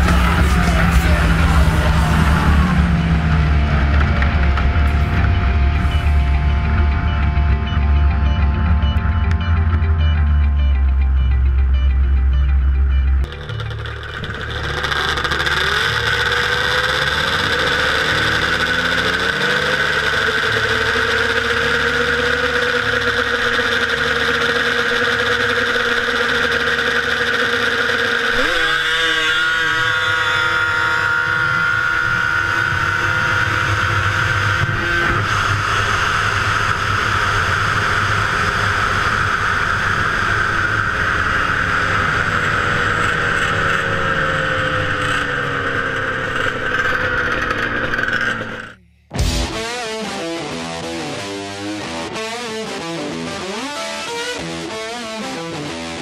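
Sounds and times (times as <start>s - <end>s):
snowmobile engine revving: 0.0s - 11.3s, 13.2s - 56.0s.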